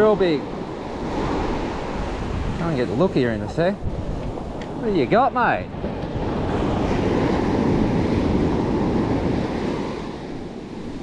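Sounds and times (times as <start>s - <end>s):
surf washing up sand: 0.0s - 11.0s
wind buffeting microphone: 0.0s - 11.0s.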